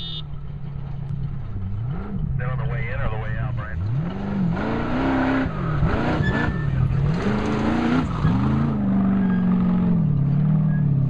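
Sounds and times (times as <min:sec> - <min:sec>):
race vehicle engine revving: 0:01.2 - 0:11.0.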